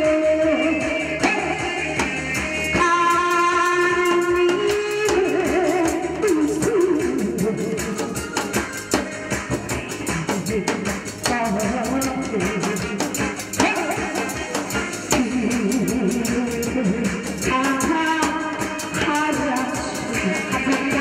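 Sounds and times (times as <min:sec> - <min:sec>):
band accompaniment: 0:00.0 - 0:21.0
quick drum beat: 0:01.2 - 0:21.0.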